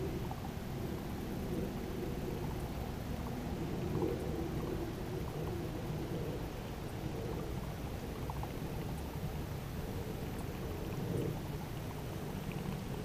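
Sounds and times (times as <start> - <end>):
low water noise: 0.0 - 13.0.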